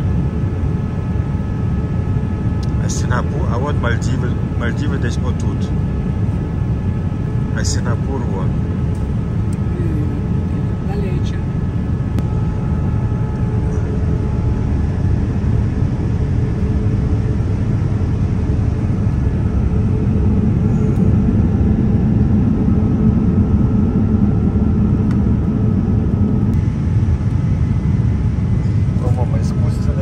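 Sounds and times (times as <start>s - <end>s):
airplane cabin roar: 0.0s - 30.0s
faint steady hum: 0.0s - 30.0s.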